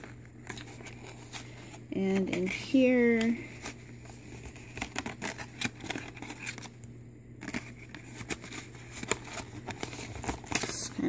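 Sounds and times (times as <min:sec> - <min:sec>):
card box clicking and crinkling: 0:00.0 - 0:06.8, 0:07.4 - 0:11.0
card box rustling: 0:00.0 - 0:06.8, 0:07.4 - 0:11.0.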